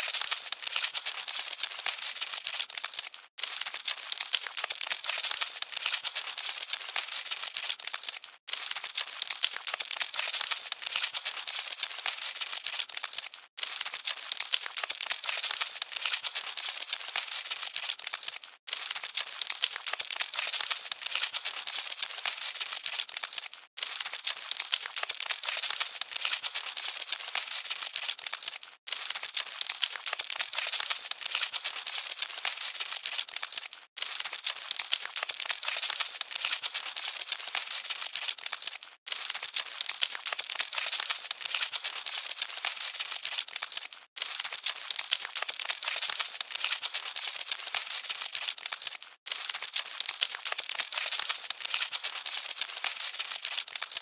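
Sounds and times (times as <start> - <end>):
cockroaches scuttling crackle: 0.0 - 54.0.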